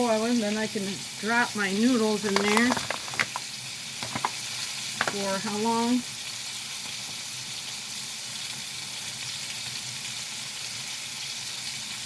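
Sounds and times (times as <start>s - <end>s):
chicken sizzling in a pan: 0.0s - 2.6s, 3.4s - 12.0s.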